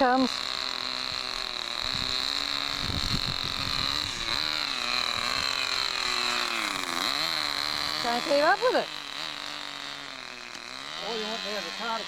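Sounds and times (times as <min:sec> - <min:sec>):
steady high whine: 0:00.0 - 0:12.0
toy car motor running: 0:00.0 - 0:12.0.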